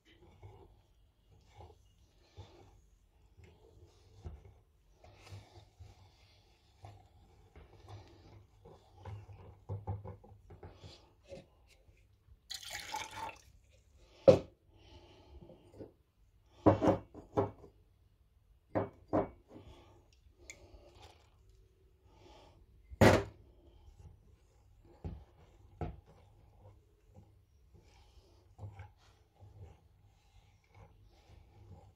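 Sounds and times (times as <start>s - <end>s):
whisk sloshing batter: 0.0s - 14.1s, 17.8s - 31.9s.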